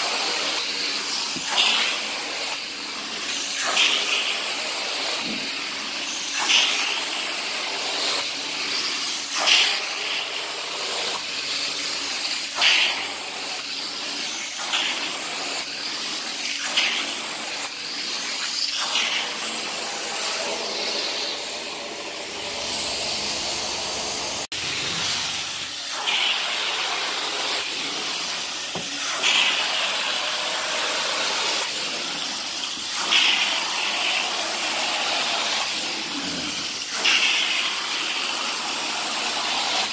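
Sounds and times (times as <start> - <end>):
carpet extraction wand hissing: 0.0 - 39.9.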